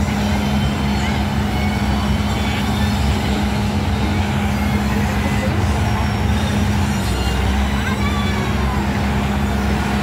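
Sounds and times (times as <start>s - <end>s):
motor humming steadily: 0.0s - 10.0s.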